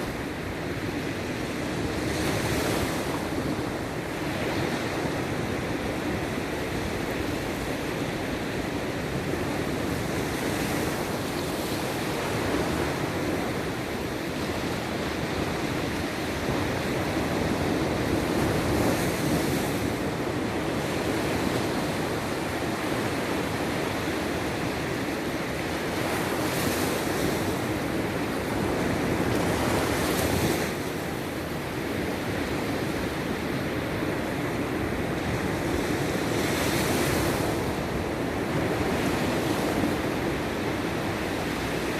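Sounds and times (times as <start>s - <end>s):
sea surf washing on shore: 0.0s - 41.9s
waves breaking: 0.0s - 41.9s.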